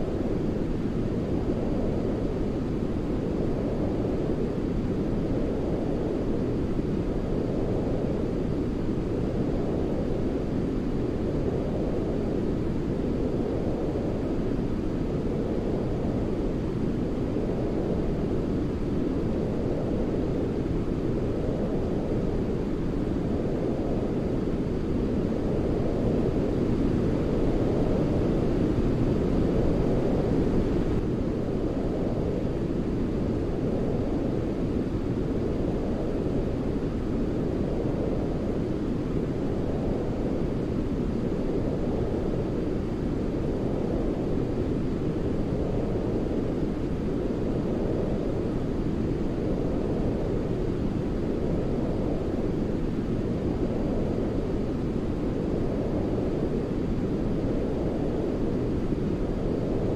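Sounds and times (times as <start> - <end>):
deep rumbling white noise: 0.0 - 59.9.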